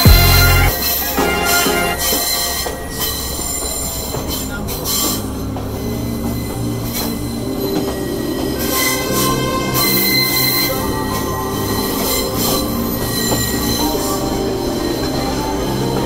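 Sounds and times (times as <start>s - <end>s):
rumble of train carriages: 0.7s - 16.0s
train wheels squealing: 0.8s - 16.0s.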